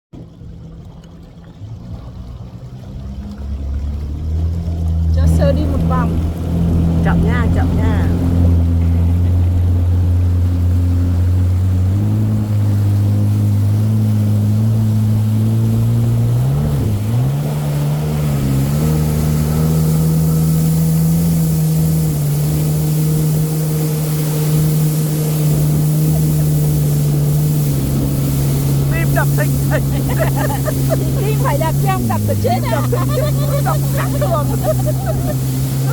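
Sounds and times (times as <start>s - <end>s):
jet ski engine running: 0.2s - 35.9s.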